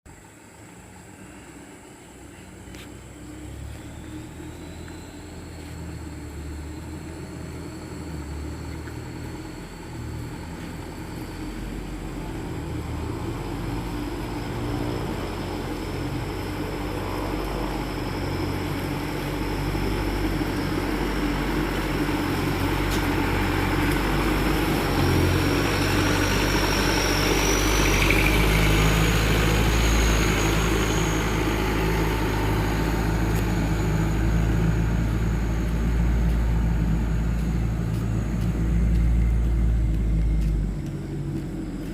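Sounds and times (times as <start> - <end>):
truck engine running: 0.1 - 41.9.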